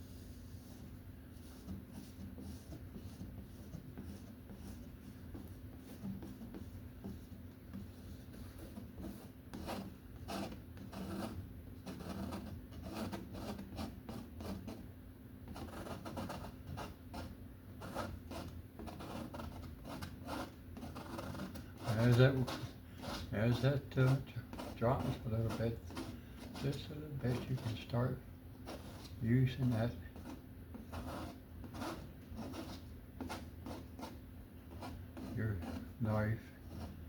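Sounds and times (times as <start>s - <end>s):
brush scrubbing paint on canvas: 0.0s - 14.8s, 15.5s - 37.0s.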